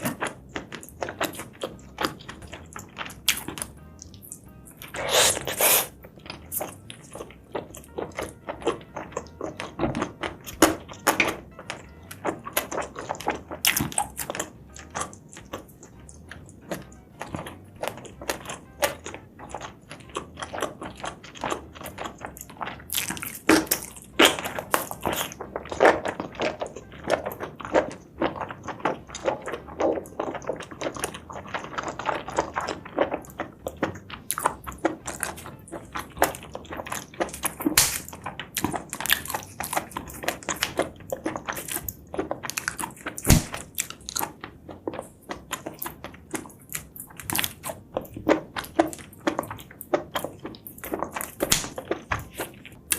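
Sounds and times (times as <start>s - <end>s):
chewing and mouth smacks: 0.0s - 52.9s.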